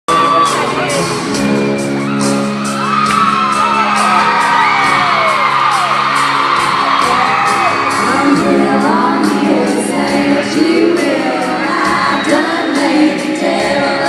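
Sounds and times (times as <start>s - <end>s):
crowd whooping and screaming: 0.1s - 10.0s, 11.0s - 13.4s.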